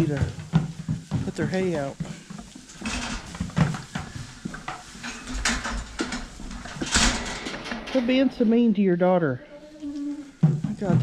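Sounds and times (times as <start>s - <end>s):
knocks and clatter: 0.0s - 8.6s, 10.4s - 11.0s.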